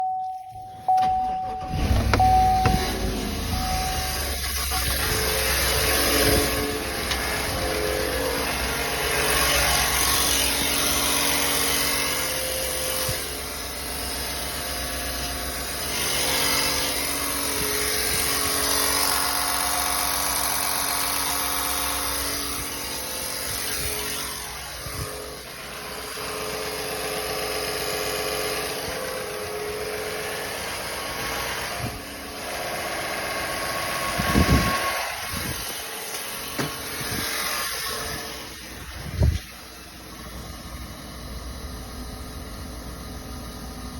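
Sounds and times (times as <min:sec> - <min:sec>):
truck engine running with ticking: 0:00.6 - 0:31.4, 0:38.9 - 0:43.9.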